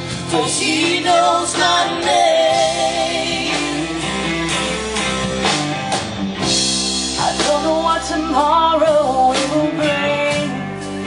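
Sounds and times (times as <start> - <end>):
drum kit: 0.0 - 11.0
electric guitar: 0.0 - 11.0
live band playing: 0.0 - 11.0.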